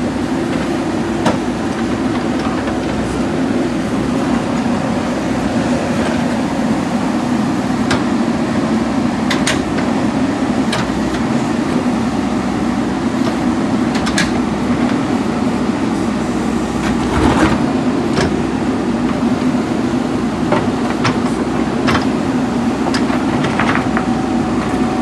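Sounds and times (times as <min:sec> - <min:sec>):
diesel engine running under load: 0:00.0 - 0:25.0.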